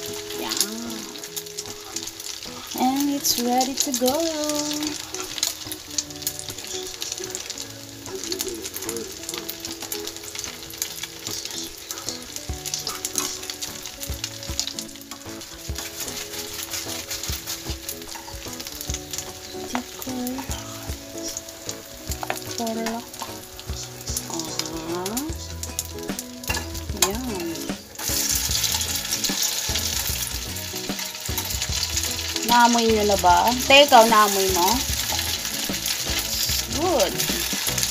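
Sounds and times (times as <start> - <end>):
rice cake sizzling in hot oil: 0.0 - 37.9.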